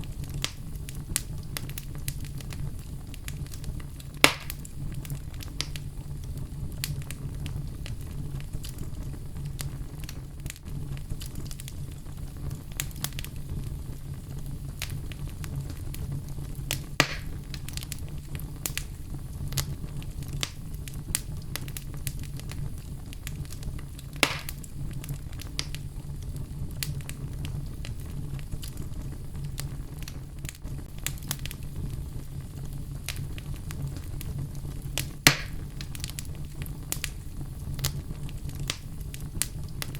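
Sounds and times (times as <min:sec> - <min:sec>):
fire crackling in a fireplace: 0:00.0 - 0:39.9
low rumble of flame: 0:00.0 - 0:39.9
sharp pops of fire: 0:00.0 - 0:39.9.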